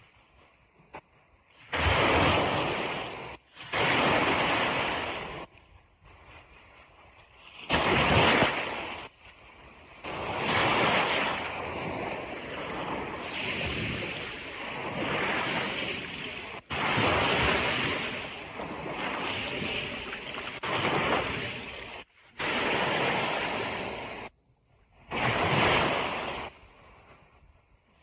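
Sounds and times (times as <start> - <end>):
ocean surf breaking on beach: 1.6 - 5.5, 7.5 - 24.3, 25.1 - 27.3.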